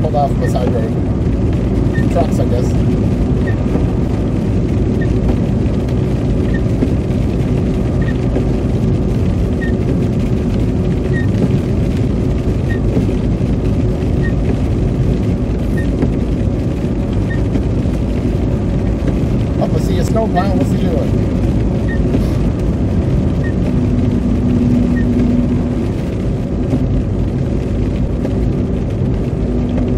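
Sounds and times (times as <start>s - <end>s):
road and tyre rumble: 0.0s - 29.9s.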